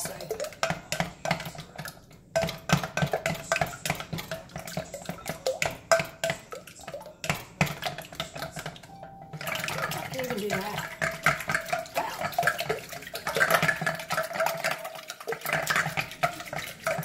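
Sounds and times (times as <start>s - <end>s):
whisk beating in bowl: 0.0s - 17.0s.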